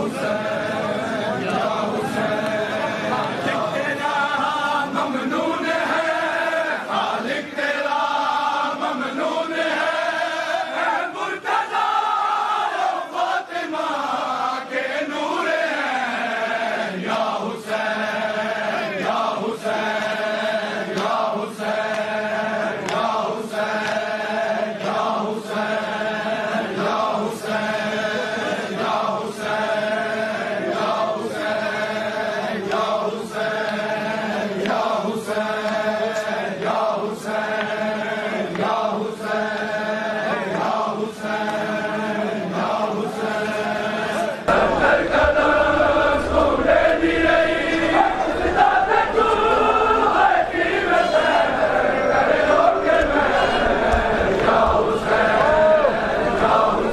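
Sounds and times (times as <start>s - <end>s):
crowd of men chanting: 0.0s - 56.9s.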